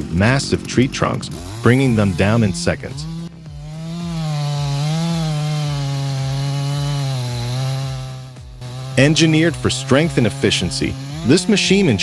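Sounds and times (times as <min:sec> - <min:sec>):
felling saw machine drone: 0:00.0 - 0:12.0.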